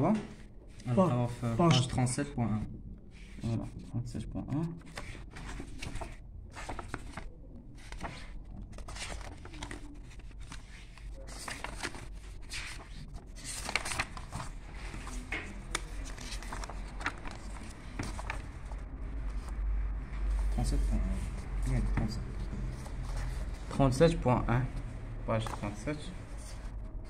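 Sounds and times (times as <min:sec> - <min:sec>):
paper pages rustling: 0:04.6 - 0:24.0, 0:24.7 - 0:27.0.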